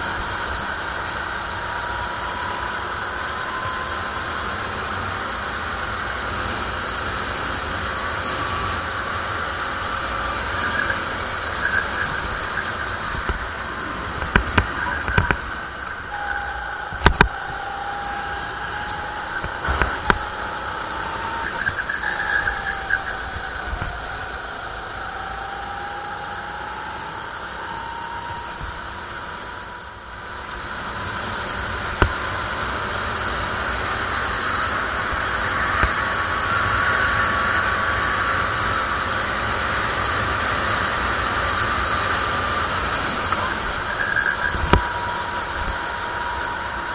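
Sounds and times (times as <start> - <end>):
go-kart engine running: 0.0 - 46.9
wind and road noise hiss: 0.0 - 46.9.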